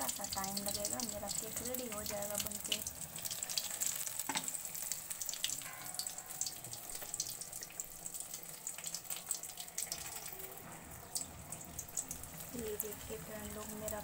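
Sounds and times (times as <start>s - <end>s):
battered slices frying in oil: 0.0s - 14.0s.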